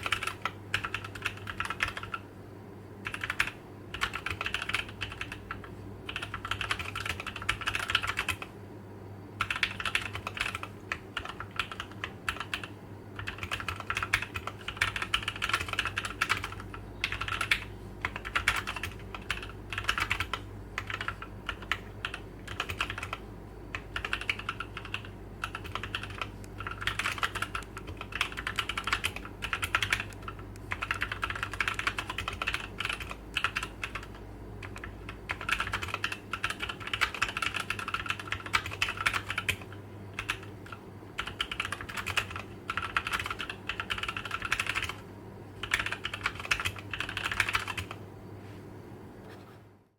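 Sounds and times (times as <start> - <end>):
mechanical keyboard typing: 0.0 - 2.2, 3.0 - 8.5, 9.4 - 45.0, 45.6 - 48.0.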